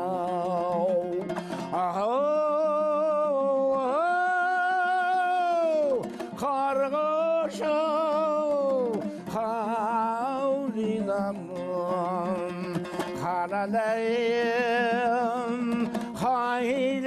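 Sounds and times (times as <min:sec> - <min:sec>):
plucked lute strumming: 0:00.0 - 0:17.0.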